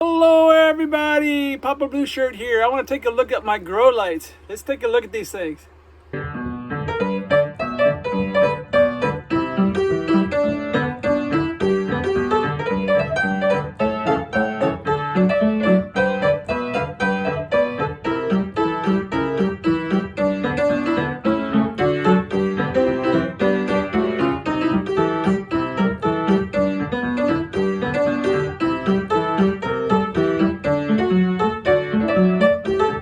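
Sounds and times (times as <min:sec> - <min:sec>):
piano music: 0:06.1 - 0:33.0.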